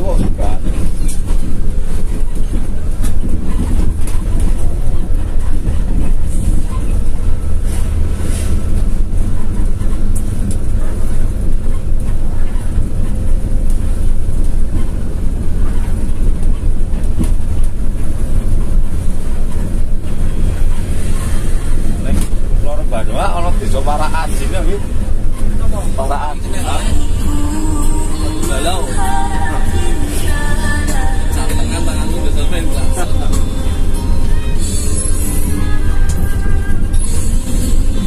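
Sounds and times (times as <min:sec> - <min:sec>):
bus engine rumble: 0:00.0 - 0:38.0
road noise: 0:00.0 - 0:38.0.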